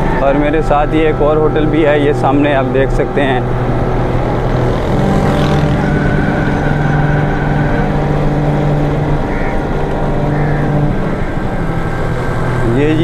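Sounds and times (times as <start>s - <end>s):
vehicle engine cruising: 0.0s - 13.0s.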